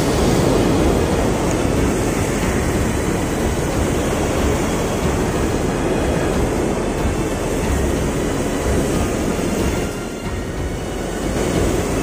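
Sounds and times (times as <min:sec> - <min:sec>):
surf breaking against rocks: 0:00.0 - 0:12.0.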